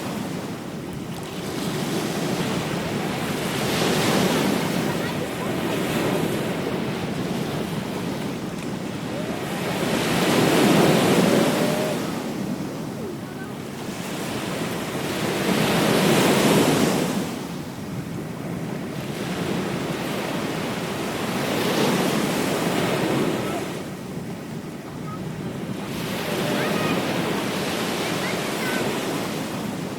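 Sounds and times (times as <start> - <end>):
ocean waves breaking: 0.0 - 29.9
wind on microphone: 0.0 - 29.9.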